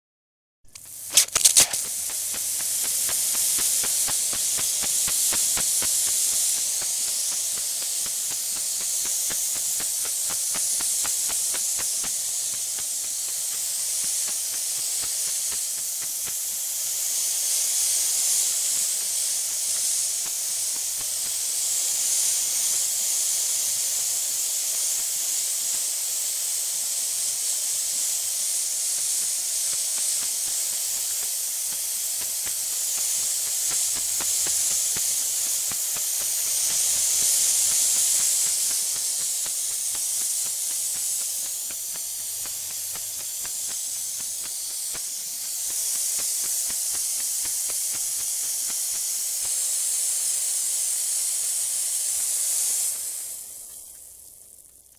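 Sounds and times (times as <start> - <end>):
fine crackling ticks: 0.7 - 26.0, 27.9 - 49.7, 53.6 - 54.9
water rushing from garden hose: 0.7 - 54.9.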